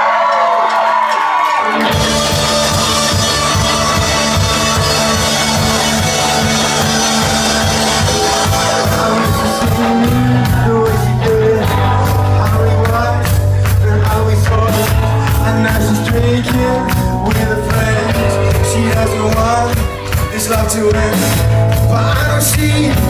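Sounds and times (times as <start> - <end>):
live rock band playing: 1.5 - 23.0
bass guitar: 1.6 - 23.0
drum beat: 1.7 - 23.0.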